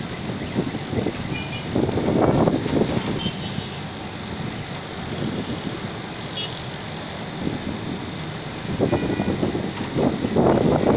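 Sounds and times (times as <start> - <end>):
distant traffic rumble: 0.0 - 10.9
wind gusting on microphone: 0.0 - 10.9.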